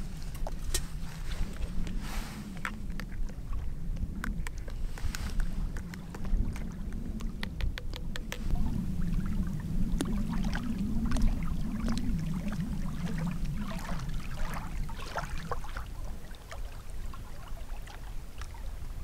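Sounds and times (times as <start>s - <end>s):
small waves lapping on shore: 0.0s - 19.0s
wind blowing: 0.0s - 19.0s.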